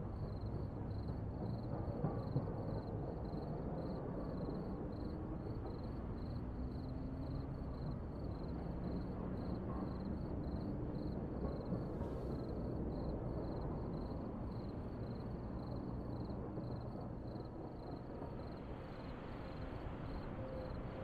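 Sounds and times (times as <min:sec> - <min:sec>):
crickets chirping: 0:00.1 - 0:21.0.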